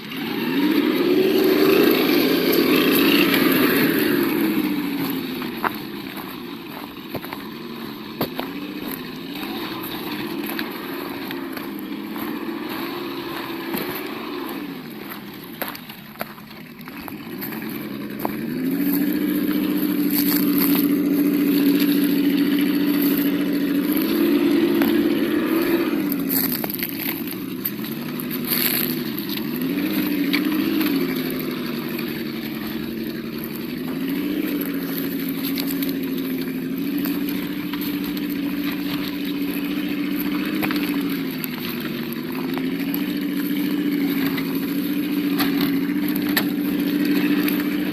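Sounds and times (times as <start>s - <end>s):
simulated engine revving: 0.0s - 47.9s.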